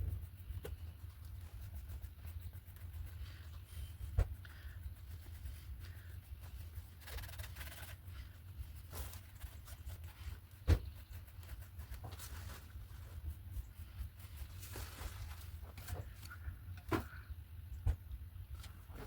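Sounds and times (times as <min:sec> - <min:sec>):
art tools scratching on paper: 0:00.0 - 0:16.0
low steady hum: 0:00.0 - 0:19.0.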